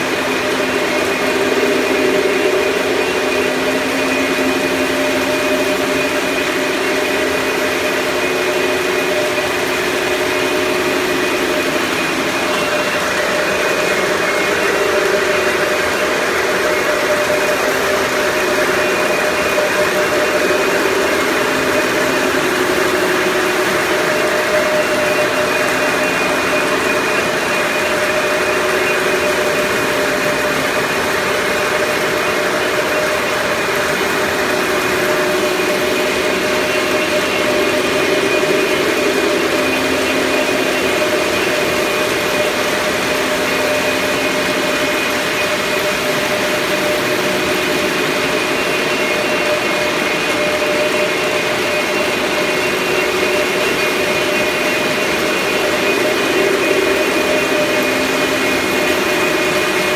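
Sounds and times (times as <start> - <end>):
machine hiss and hum: 0.0 - 59.9.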